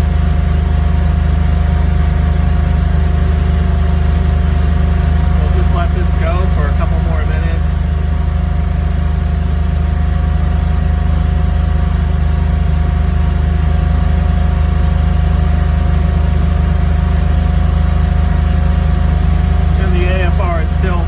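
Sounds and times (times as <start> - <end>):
car engine idling: 0.0 - 21.0
high whine: 0.0 - 21.0.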